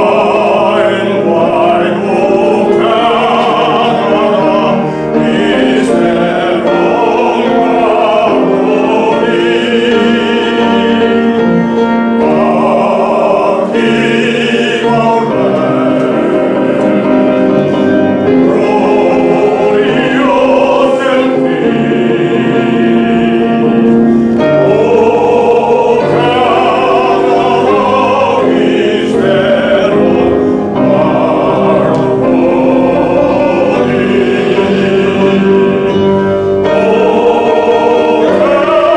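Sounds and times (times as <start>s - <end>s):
choir singing held notes: 0.0s - 38.9s
instrumental accompaniment: 0.0s - 38.9s.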